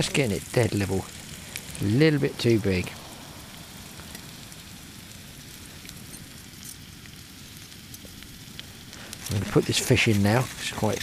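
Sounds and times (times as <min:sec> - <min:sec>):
potatoes sizzling in a pan: 0:00.0 - 0:11.0.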